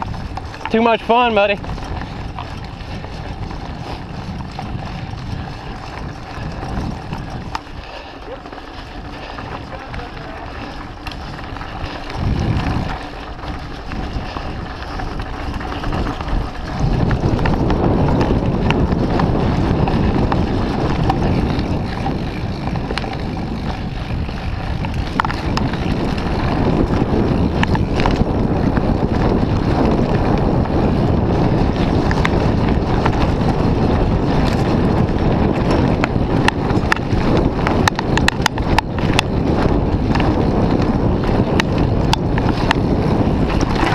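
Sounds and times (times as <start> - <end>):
bike rattling and knocking: 0.0 - 43.9
wind buffeting microphone: 0.0 - 43.9.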